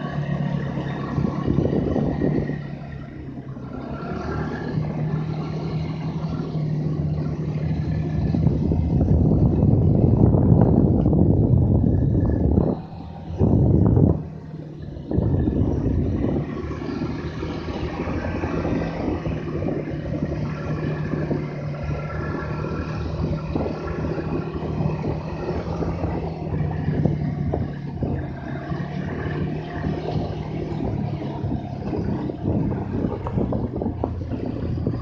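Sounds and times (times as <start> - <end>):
snowmobile engine running: 0.0 - 35.0.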